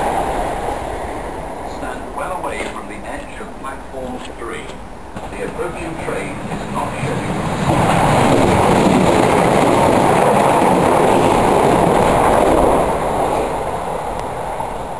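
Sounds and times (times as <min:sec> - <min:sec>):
train passing on rails: 0:00.0 - 0:14.9.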